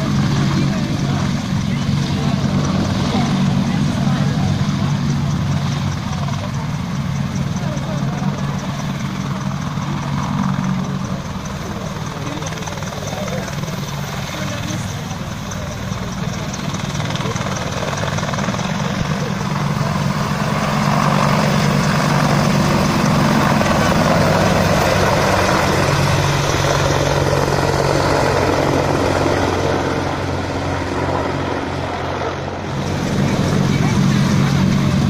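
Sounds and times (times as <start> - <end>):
helicopter rotor and turbine: 0.0 - 35.0.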